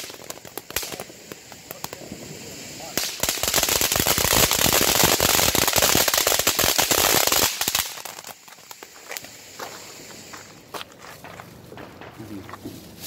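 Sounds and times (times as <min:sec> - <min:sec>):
firework crackling and hissing: 0:00.0 - 0:13.0.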